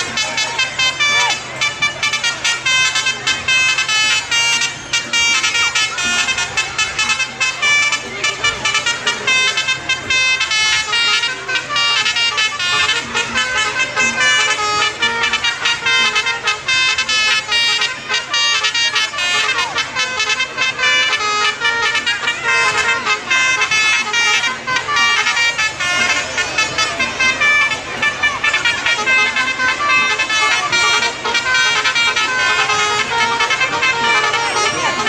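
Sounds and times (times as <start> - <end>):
musical horns tooting melody: 0.0 - 35.0.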